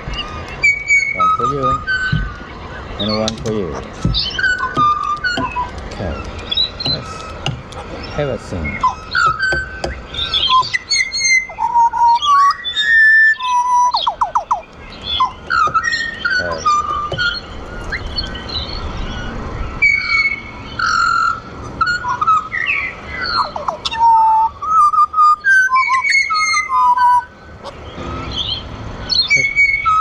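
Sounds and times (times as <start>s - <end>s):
birds singing fluting whistles: 0.0s - 30.0s.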